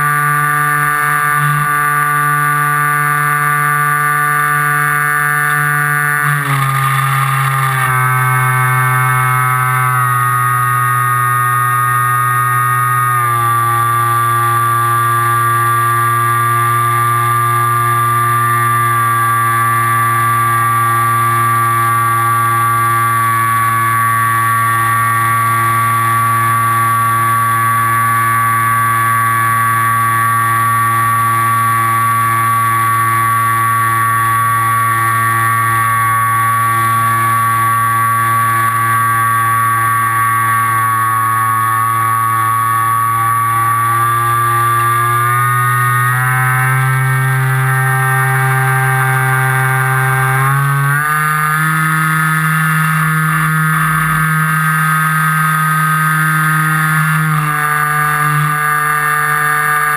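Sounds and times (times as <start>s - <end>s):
electric motor and propeller whine: 0.0s - 59.9s.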